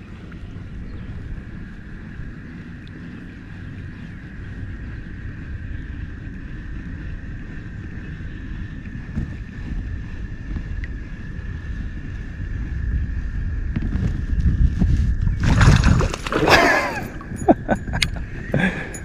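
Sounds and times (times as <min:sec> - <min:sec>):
faint high whine: 0:00.0 - 0:19.0
wind buffeting microphone: 0:00.0 - 0:19.0.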